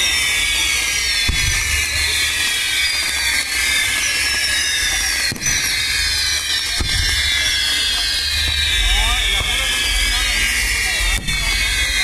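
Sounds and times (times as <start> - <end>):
falling firework whistles: 0.0 - 12.0
fireworks hissing: 0.0 - 12.0.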